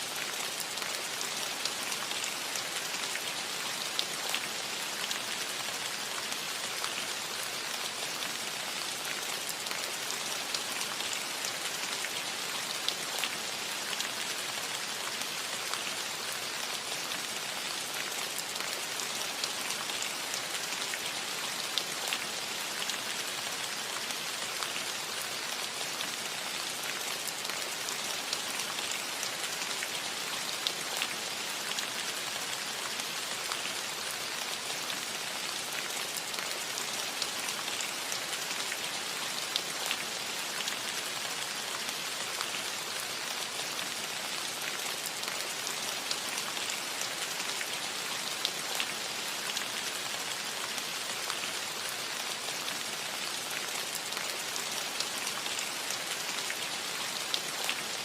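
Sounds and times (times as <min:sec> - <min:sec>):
rain hissing on a roof: 0:00.0 - 0:58.0.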